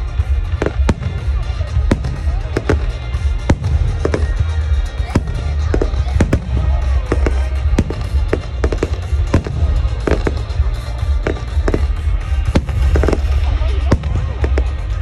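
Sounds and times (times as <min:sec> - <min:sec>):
music playing: 0:00.0 - 0:15.0
fireworks bangs: 0:00.1 - 0:15.0.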